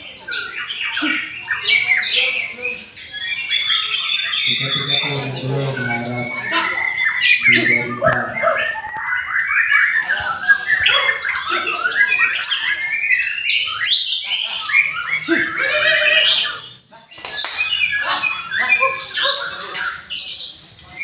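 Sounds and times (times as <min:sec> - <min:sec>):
songbird whistling and chattering: 0:00.0 - 0:21.0.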